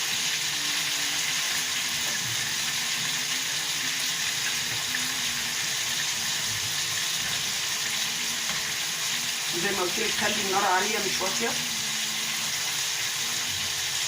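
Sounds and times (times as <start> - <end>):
chicken sizzling in a pan: 0.0 - 14.0.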